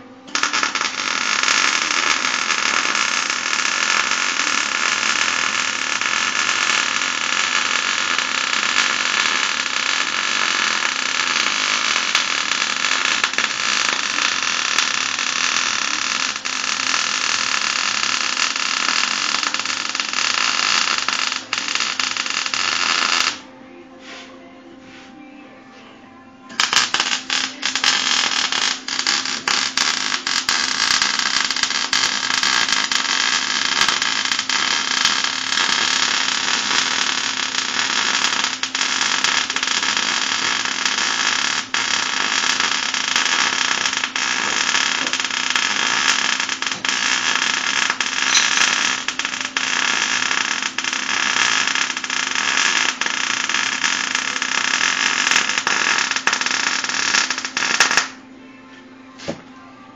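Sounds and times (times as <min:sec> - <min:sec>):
arc welding crackle: 0:00.0 - 0:23.4, 0:26.5 - 0:58.2.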